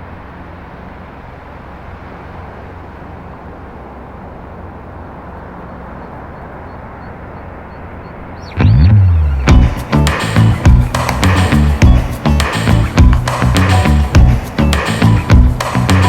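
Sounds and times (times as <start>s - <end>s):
low hum: 0.0s - 16.0s
outdoor noise: 0.0s - 16.0s.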